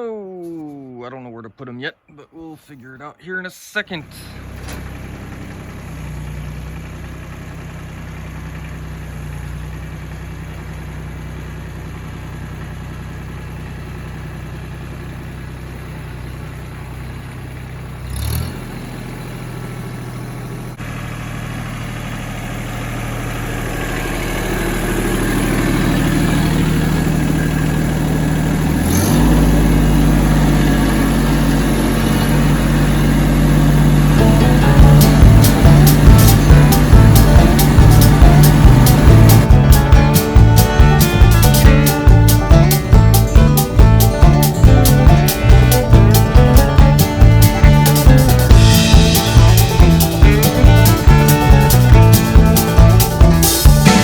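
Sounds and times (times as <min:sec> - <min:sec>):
tractor engine running: 0:03.8 - 0:54.0.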